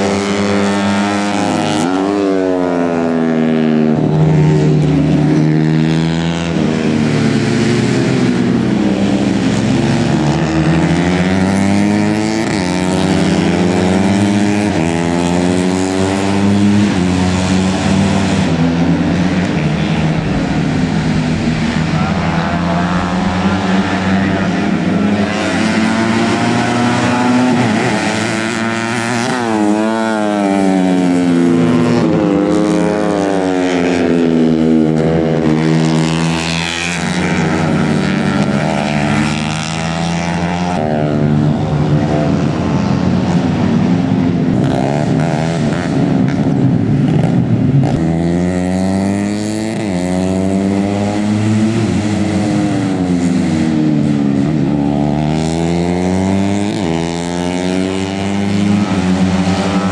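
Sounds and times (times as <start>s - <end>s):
racing motorcycles revving: 0.0s - 59.9s.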